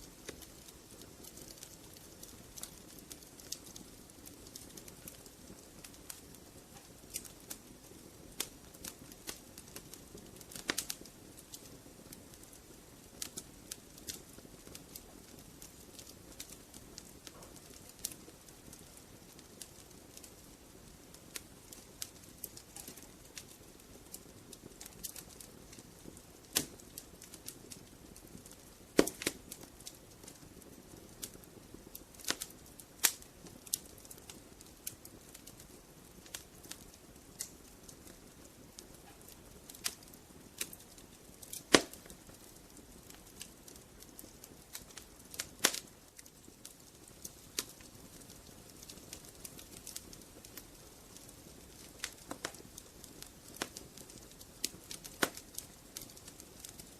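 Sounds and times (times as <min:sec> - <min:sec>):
fire flames rumbling: 0:00.0 - 0:56.9
logs crackling and popping: 0:00.0 - 0:56.9.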